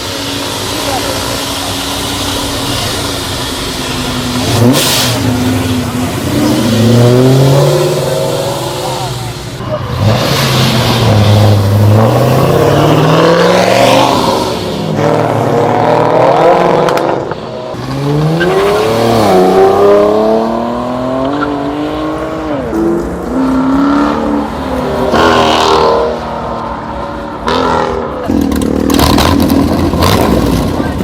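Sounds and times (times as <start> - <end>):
car engines revving hard: 0.0 - 31.0.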